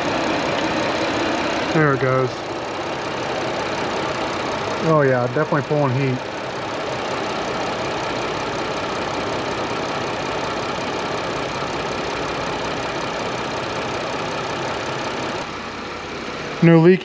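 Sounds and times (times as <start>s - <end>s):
car engine idling: 0.0s - 17.0s
radiator cooling fans rushing: 0.0s - 17.0s.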